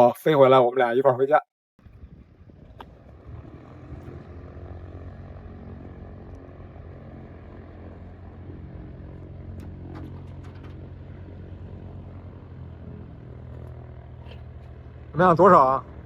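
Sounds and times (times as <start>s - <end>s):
engine droning: 1.8s - 16.0s.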